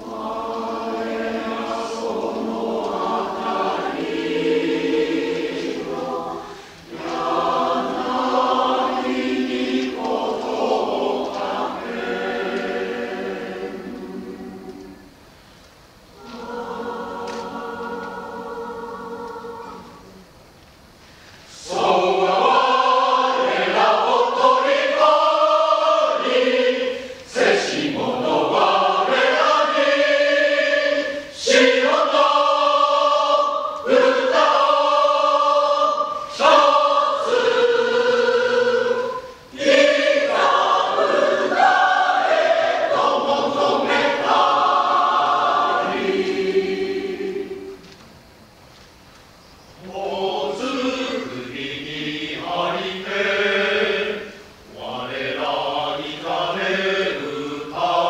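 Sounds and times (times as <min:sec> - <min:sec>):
choir singing unaccompanied: 0:00.0 - 0:20.5, 0:21.1 - 0:48.6, 0:49.6 - 0:58.0.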